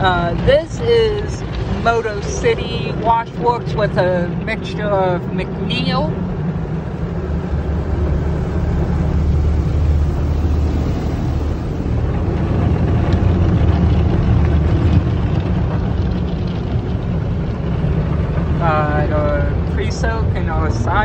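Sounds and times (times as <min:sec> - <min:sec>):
car wash low rumble: 0:00.0 - 0:21.0.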